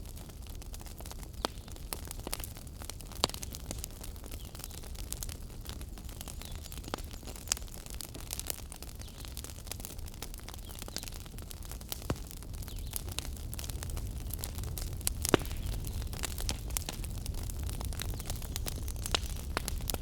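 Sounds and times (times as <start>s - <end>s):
fire crackles and pops: 0.0s - 20.0s
low rumble of flames: 0.0s - 20.0s.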